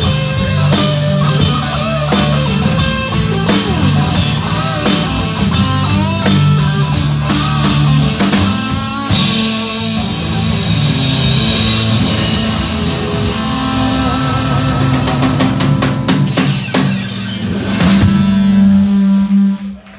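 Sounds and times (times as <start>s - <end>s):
drum hits: 0.0s - 19.2s
rock band playing: 0.0s - 19.9s.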